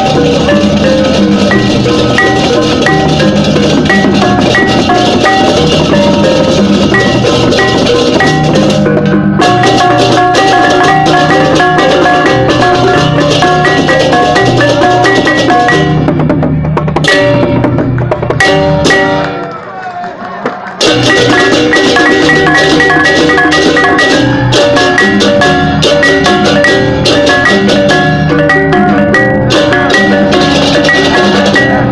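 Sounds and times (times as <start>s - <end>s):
gamelan music: 0.0s - 19.6s, 20.8s - 31.9s
drums: 0.0s - 31.9s.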